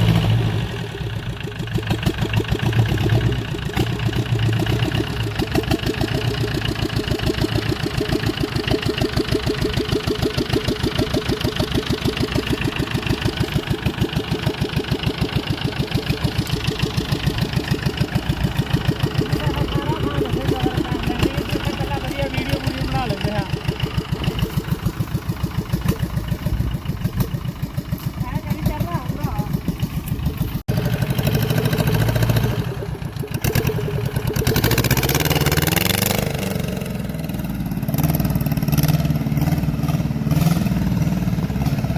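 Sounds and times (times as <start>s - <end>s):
tractor engine pulsing: 0.0s - 41.9s.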